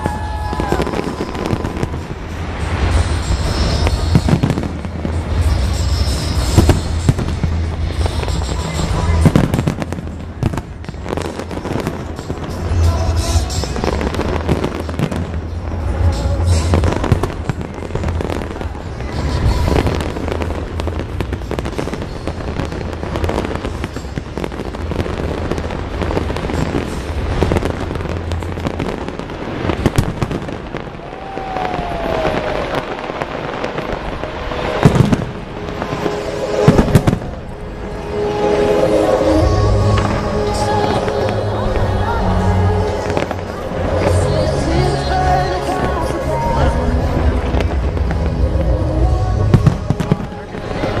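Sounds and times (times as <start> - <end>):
fireworks bursting and crackling: 0.0 - 51.0
low rumble: 0.0 - 51.0.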